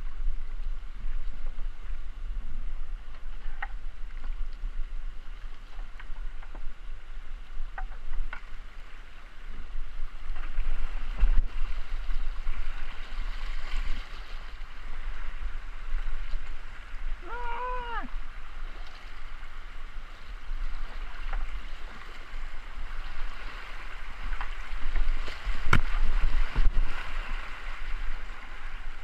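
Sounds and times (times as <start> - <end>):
paddle splashing water: 0.0 - 29.0.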